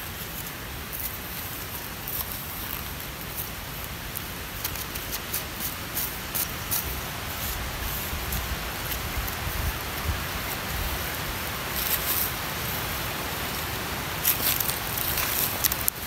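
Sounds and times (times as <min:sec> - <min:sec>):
dry leaves crackling: 0:00.0 - 0:16.0
outdoor hiss: 0:00.0 - 0:16.0.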